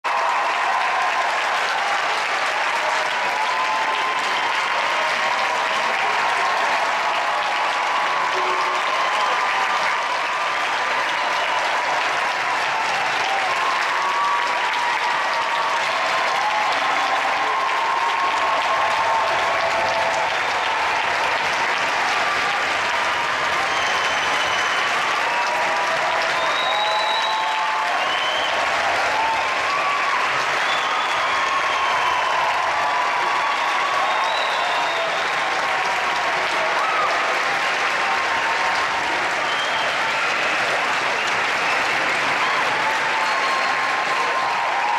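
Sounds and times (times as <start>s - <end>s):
crowd applauding in church: 0.0s - 44.9s.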